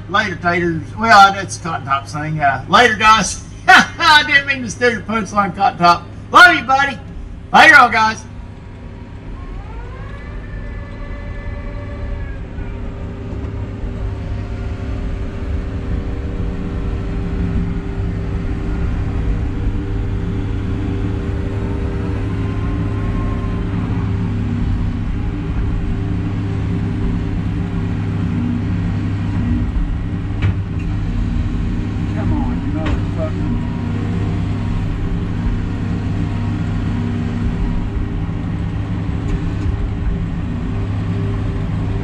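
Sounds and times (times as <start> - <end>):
diesel engine and hydraulics drone: 0.0 - 42.0
rising whine: 6.0 - 42.0.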